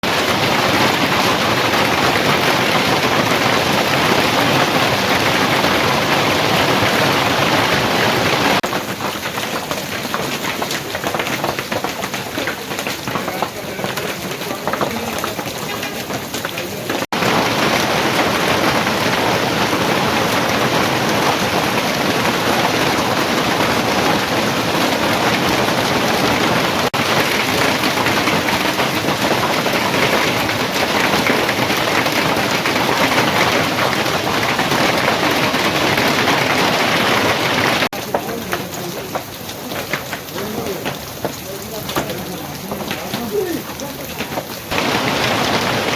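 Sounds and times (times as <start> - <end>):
hail and heavy rain pelting: 0.0 - 45.9.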